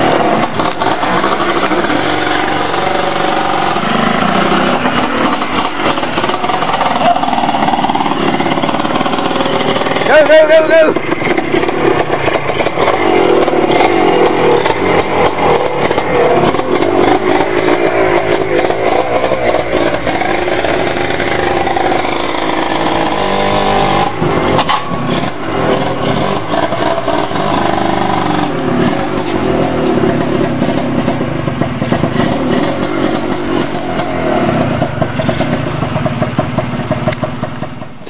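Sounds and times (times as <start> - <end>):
atv engine revving: 0.0 - 38.0.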